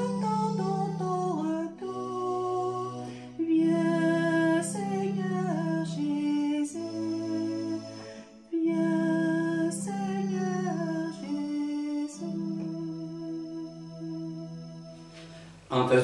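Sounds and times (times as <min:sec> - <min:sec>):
woman singing: 0:00.0 - 0:13.7
organ chords: 0:00.0 - 0:16.0.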